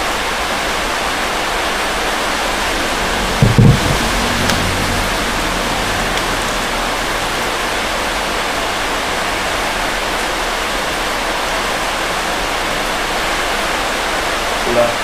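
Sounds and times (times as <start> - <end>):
steady rushing hiss: 0.4 - 15.0.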